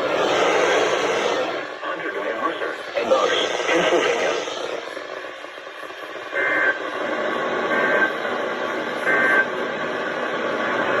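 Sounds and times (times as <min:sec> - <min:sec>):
radio hiss: 0:00.0 - 0:09.6.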